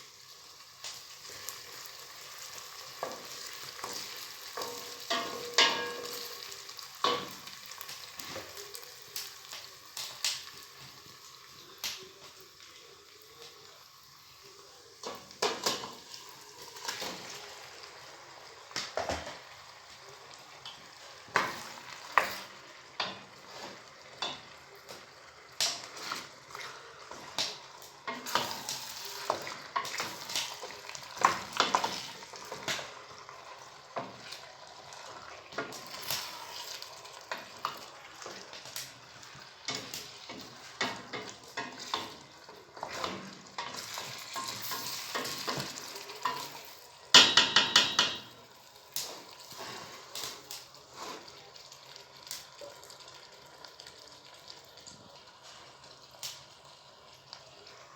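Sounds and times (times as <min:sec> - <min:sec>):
food sizzling in a pan: 0:00.0 - 0:57.9.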